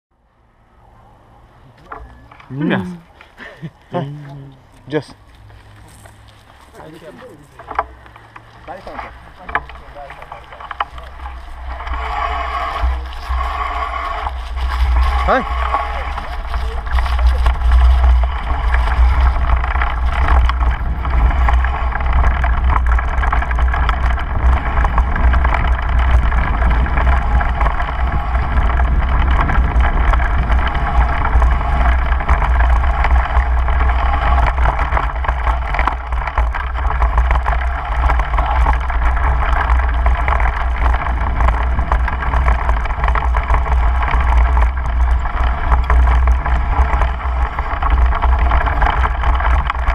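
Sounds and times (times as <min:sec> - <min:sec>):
bike rattling: 0:01.6 - 0:49.9
tyres rumbling over bumpy grass: 0:01.6 - 0:49.9
small clicks from bumps: 0:01.7 - 0:49.9
wind buffeting microphone: 0:06.8 - 0:49.9.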